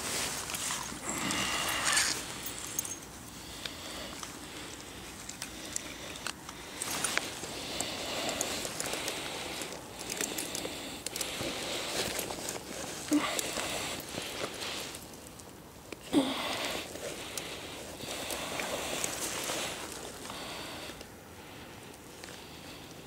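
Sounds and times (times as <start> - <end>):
clothes and gear rustling: 0.0 - 23.0.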